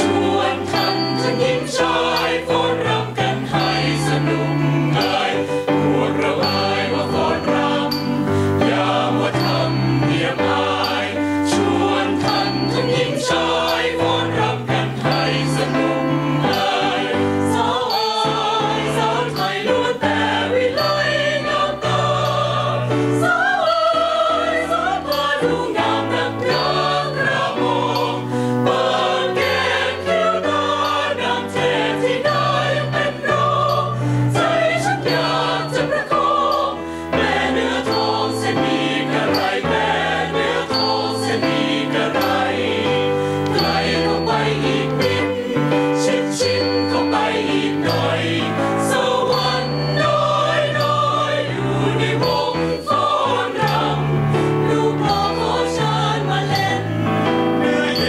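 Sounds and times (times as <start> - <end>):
mixed choir singing in harmony: 0.0 - 58.0.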